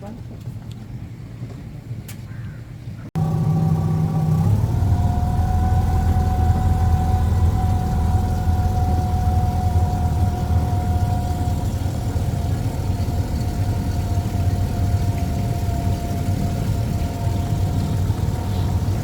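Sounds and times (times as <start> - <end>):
boat engine hum with whine: 0.0 - 19.0.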